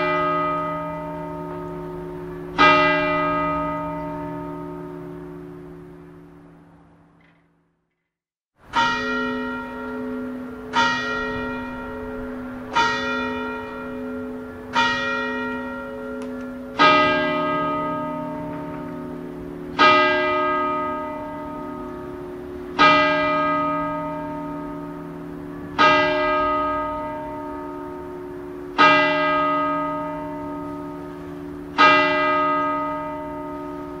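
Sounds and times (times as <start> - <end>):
church bells tolling: 0.0 - 6.7, 8.6 - 34.0.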